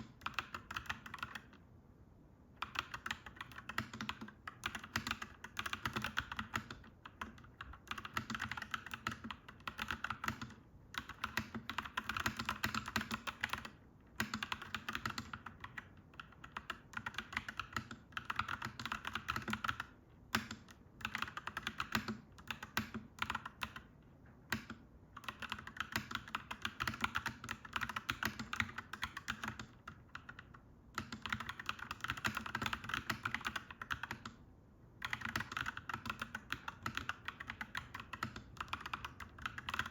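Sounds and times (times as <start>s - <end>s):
mechanical keyboard typing: 0.0s - 1.6s, 2.6s - 34.4s, 35.0s - 39.9s.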